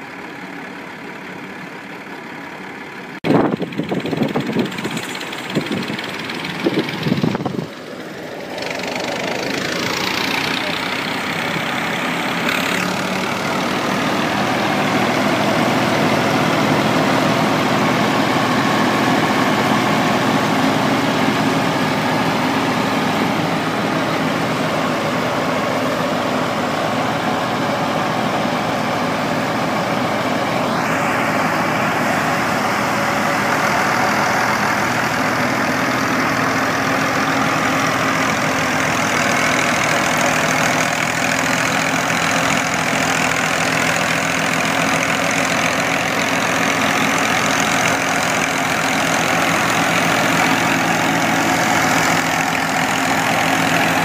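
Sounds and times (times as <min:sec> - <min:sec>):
diesel engine running: 0:00.0 - 0:54.0
thresher rushing noise: 0:03.2 - 0:54.0.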